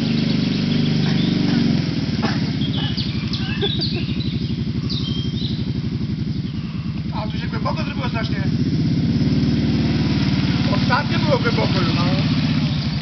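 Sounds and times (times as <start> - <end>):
birds chirping: 0.0 - 13.0
quad bike engine in mud: 0.0 - 13.0.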